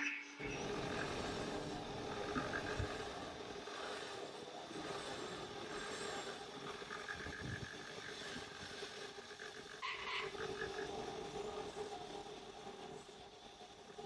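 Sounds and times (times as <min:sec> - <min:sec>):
machine hum: 0:00.3 - 0:14.0.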